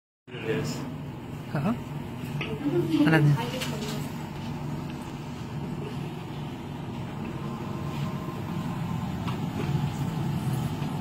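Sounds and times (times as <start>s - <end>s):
fan motor humming: 0.3s - 11.0s.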